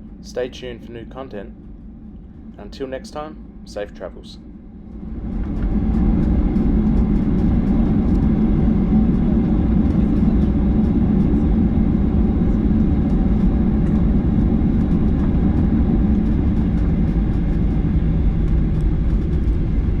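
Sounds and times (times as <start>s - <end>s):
jet aircraft rumble: 0.0s - 20.0s.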